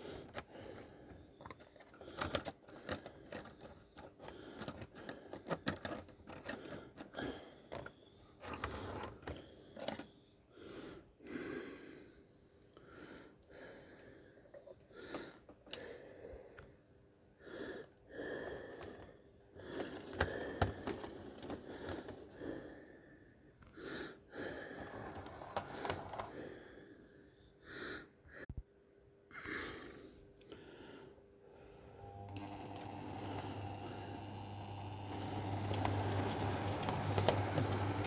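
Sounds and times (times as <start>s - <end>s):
heavy breathing: 0.0s - 28.6s, 29.3s - 34.2s.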